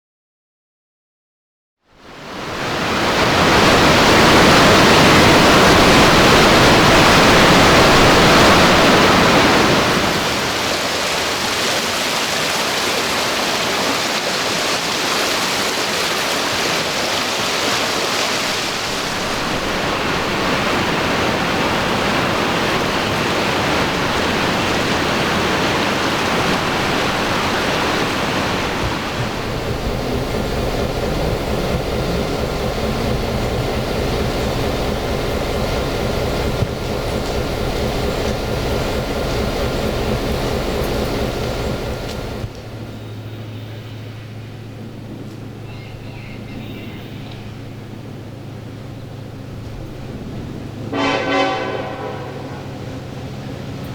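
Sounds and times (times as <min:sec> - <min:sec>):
moving train rushing noise: 0:02.1 - 0:53.9
low engine hum: 0:02.2 - 0:53.9.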